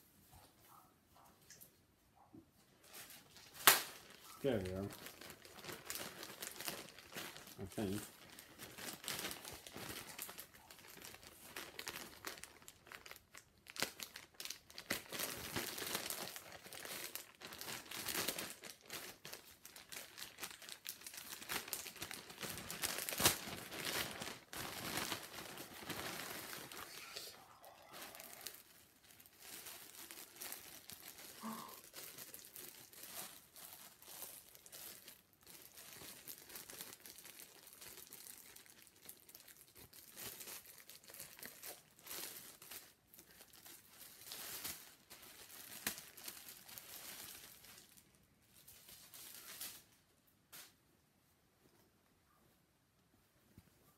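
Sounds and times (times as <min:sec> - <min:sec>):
plastic bags crinkling: 0:02.8 - 0:50.8.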